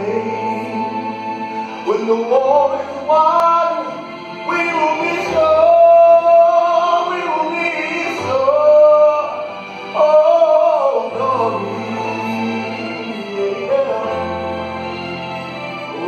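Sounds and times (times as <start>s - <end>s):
man singing into microphone: 0.0s - 14.9s
low musical accompaniment: 0.0s - 16.0s.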